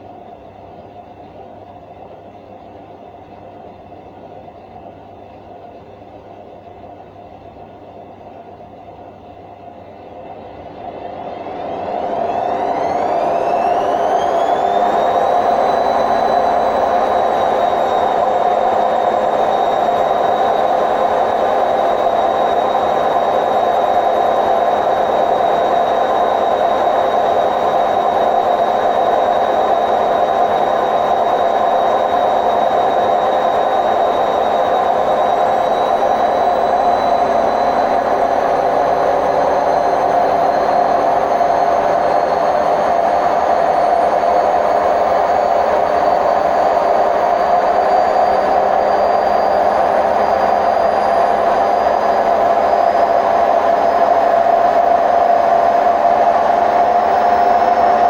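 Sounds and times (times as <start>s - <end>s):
high whine: 6.5s - 58.0s.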